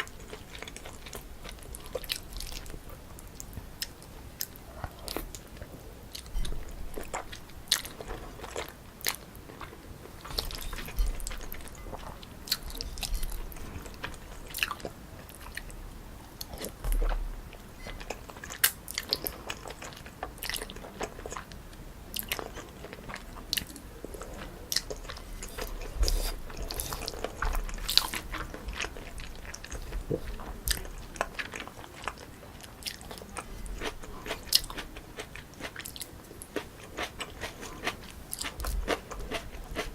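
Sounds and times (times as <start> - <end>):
chewing noodles: 0.0 - 39.9.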